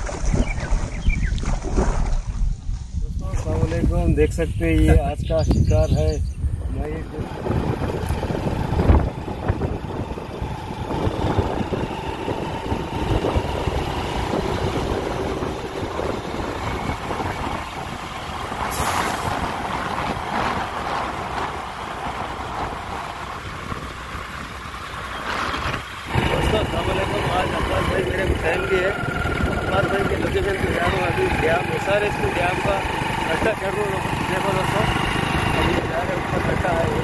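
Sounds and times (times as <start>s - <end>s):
road and engine noise: 3.3s - 37.0s
heavy lorries passing: 6.8s - 37.0s.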